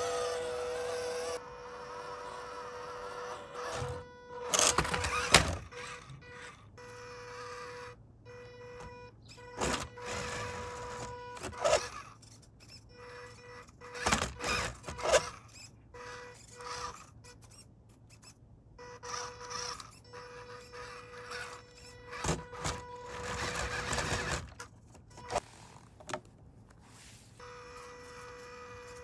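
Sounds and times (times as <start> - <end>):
toy car motor whining: 0.0 - 25.8, 27.3 - 29.0.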